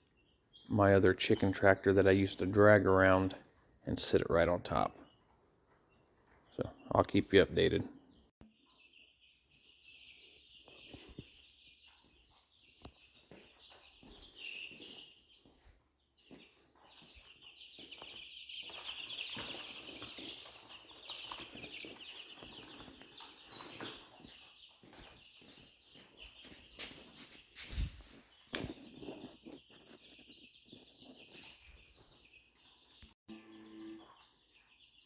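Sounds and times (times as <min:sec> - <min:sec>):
chickens chirping: 0:00.0 - 0:35.0.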